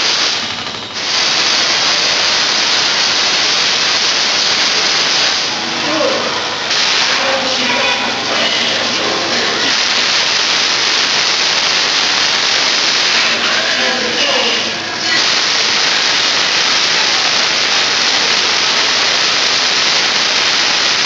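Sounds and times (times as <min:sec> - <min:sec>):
electrical discharge crackling: 0:00.0 - 0:21.0.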